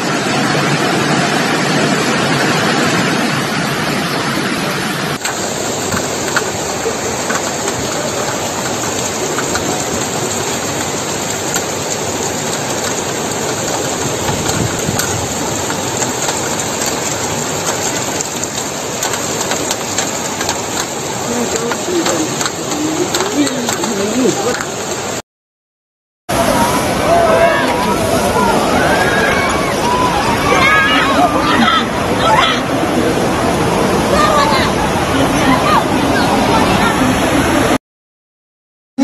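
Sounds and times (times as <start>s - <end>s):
heavy rain hissing: 0.0s - 25.2s, 26.3s - 37.8s
rushing floodwater: 0.0s - 25.2s, 26.3s - 37.8s.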